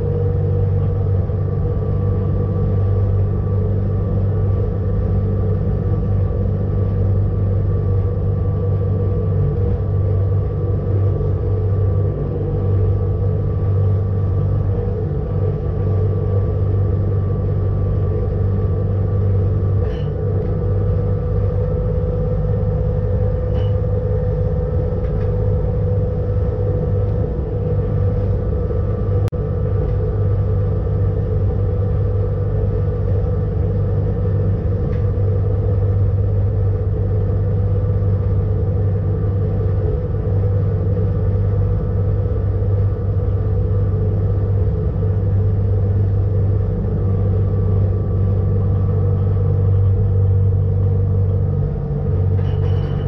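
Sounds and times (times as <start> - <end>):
railcar hum and rumble: 0.0 - 53.0
steady electric whine: 0.0 - 53.0.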